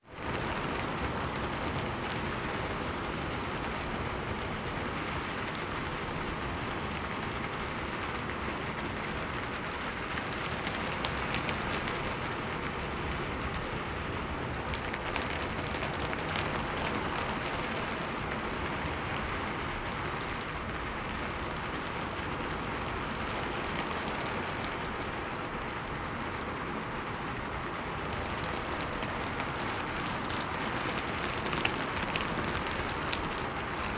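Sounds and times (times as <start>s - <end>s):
rain on a rooftop: 0.0s - 33.9s.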